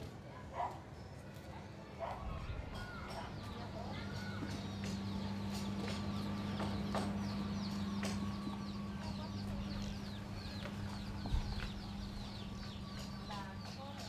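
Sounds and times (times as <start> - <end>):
birds chirping: 0.0 - 14.0
steady low hum: 2.6 - 14.0.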